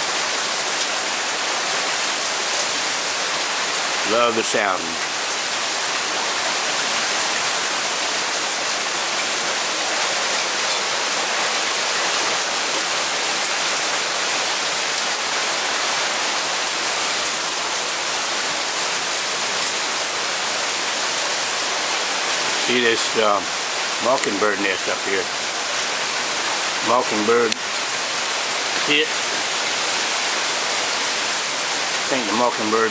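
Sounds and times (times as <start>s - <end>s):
rain on ground and leaves: 0.0s - 32.9s.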